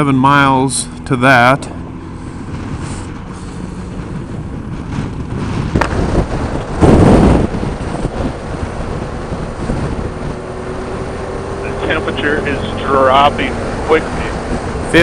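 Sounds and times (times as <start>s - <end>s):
motorcycle engine: 0.0s - 15.0s
road noise: 0.0s - 15.0s
wind buffeting microphone: 1.8s - 15.0s.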